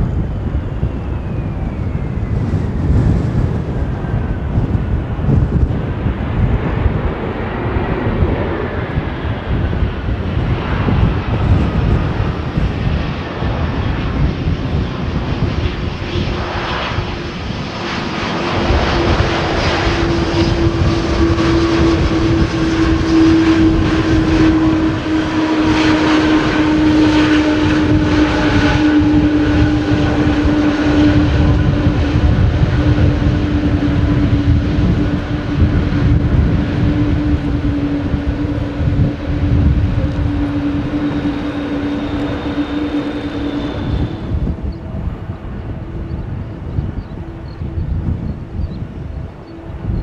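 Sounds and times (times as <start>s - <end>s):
jet engines droning: 0.0s - 50.0s
wind buffeting microphone: 0.0s - 50.0s.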